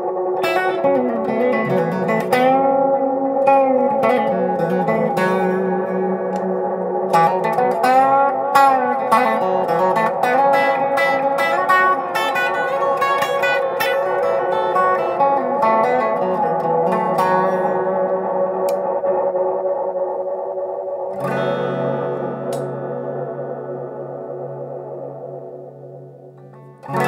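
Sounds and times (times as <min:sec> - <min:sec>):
electric guitar with echoing delay: 0:00.0 - 0:27.0.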